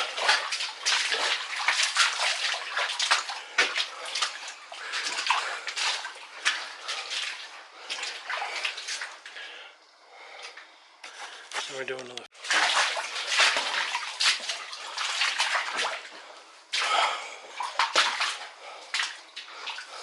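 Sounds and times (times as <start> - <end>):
footsteps wading through water: 0.0 - 9.5, 11.1 - 20.0.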